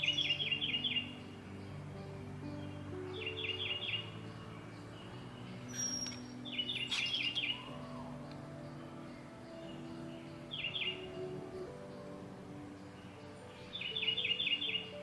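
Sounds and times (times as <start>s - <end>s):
bird chirp trills: 0.0s - 15.0s
soft background music: 0.0s - 15.0s.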